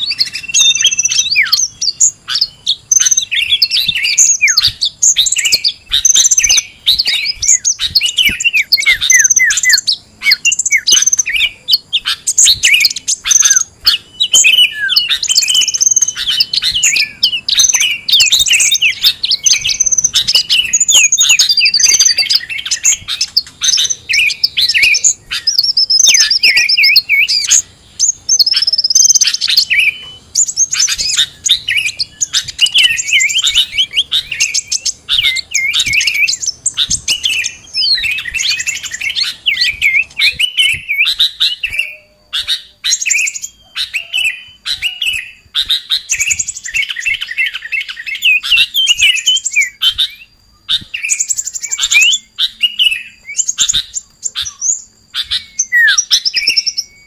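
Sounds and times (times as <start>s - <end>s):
many songbirds chirping and trilling: 0.0s - 57.0s.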